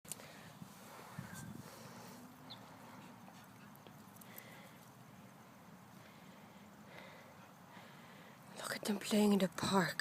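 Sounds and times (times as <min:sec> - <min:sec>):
faint background noise: 0:00.1 - 0:10.0.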